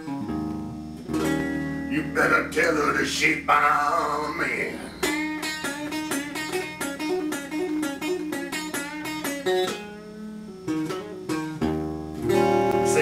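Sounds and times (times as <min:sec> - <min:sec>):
electric guitar blues riff: 0:00.0 - 0:13.0.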